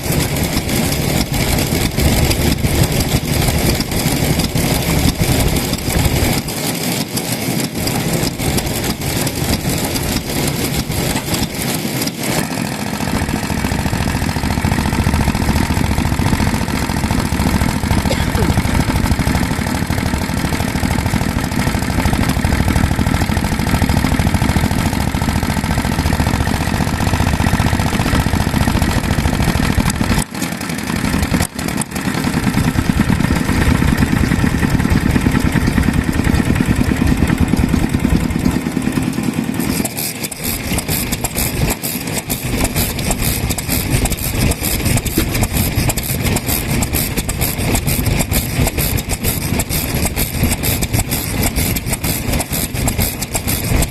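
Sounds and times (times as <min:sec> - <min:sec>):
stationary engines running: 0:00.0 - 0:53.9.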